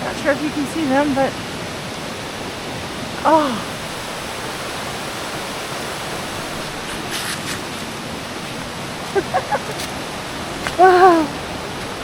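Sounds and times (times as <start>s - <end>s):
stream rushing into a pool: 0.0s - 12.0s.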